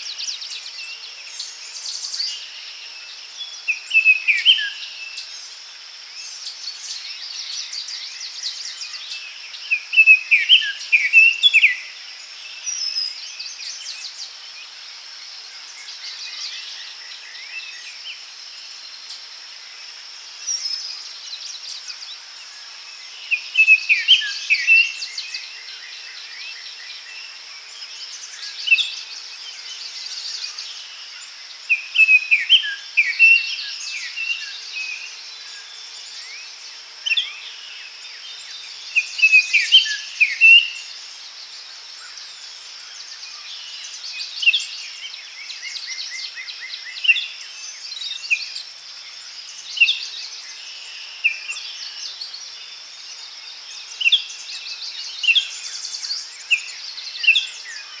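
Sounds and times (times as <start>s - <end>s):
birds calling and singing: 0.0s - 58.0s
insects hissing: 0.0s - 58.0s.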